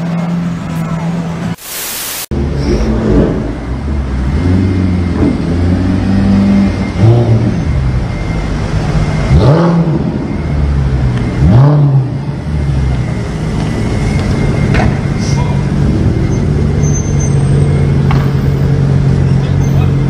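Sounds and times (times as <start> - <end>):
car engine revving: 2.4 - 20.0.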